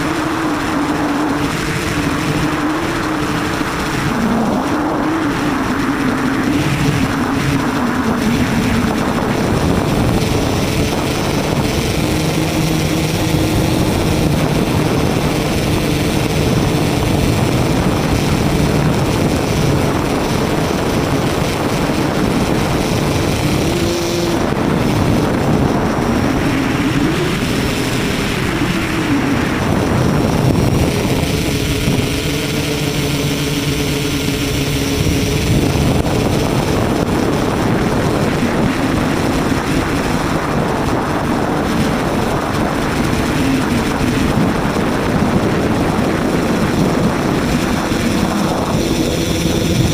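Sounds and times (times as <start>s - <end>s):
drone motors and propellers buzzing: 0.0s - 49.9s.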